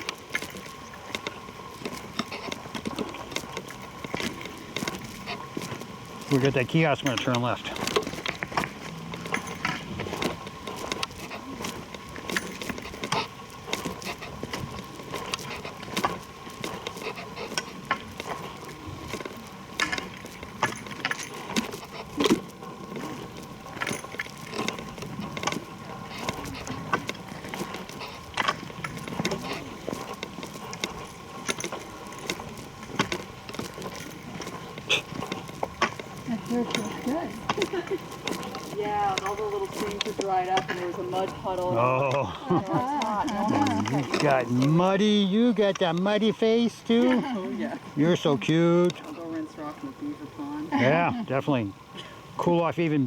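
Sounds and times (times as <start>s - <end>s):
light jingling: 0.0s - 52.4s
footsteps crunching on dirt trail: 0.0s - 53.0s.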